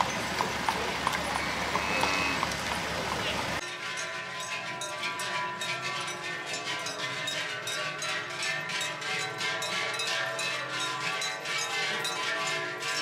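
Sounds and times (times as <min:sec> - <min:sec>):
goat bells clanking: 0:00.0 - 0:02.4, 0:03.6 - 0:13.0.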